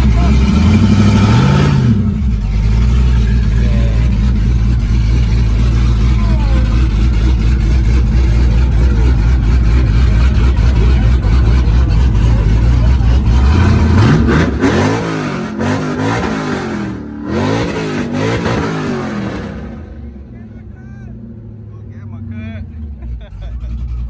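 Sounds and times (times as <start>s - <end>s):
truck engine rumbling and revving: 0.0s - 24.0s.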